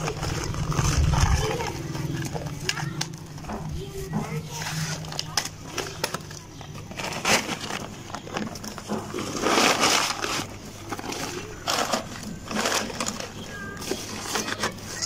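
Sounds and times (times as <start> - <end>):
sacking rustling and crinkling: 0.0 - 2.7, 4.4 - 15.0.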